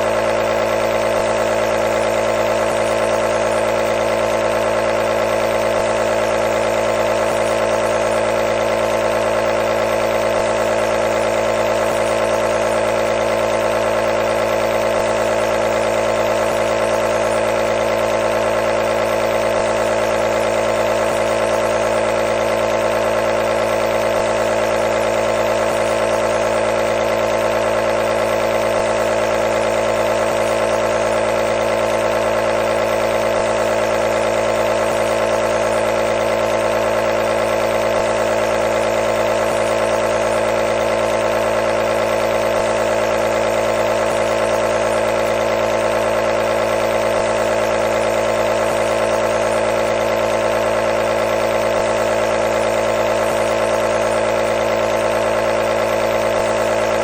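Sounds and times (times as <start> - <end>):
nebulizer compressor humming: 0.0 - 57.0.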